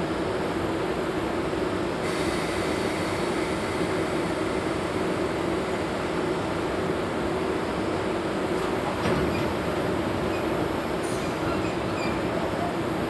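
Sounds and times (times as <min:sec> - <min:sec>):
locomotive cooling blowers hum: 0:00.0 - 0:13.0.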